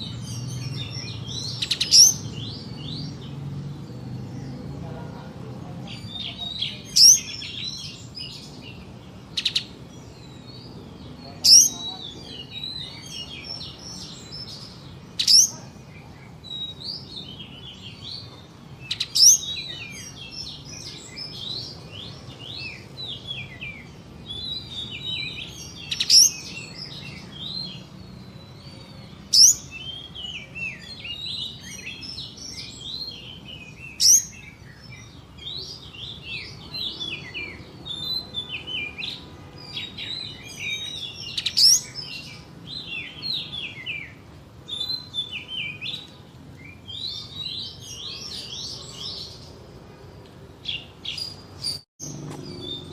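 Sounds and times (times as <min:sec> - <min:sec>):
songbird twittering chatter: 0:00.0 - 0:49.8.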